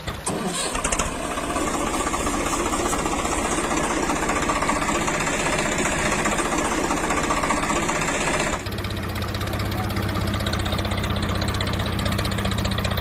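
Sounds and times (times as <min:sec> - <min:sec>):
tractor engine idling with clatter: 0:00.0 - 0:13.0.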